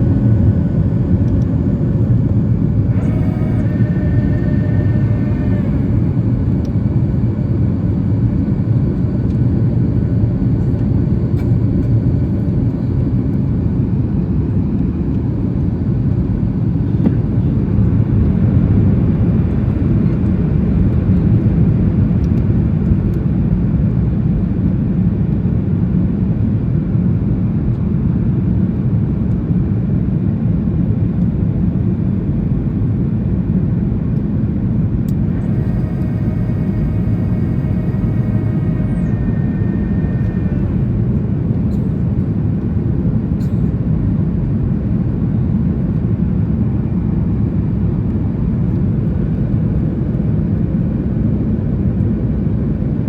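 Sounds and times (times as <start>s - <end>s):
airplane cabin rumble: 0.0s - 24.1s, 27.8s - 53.0s.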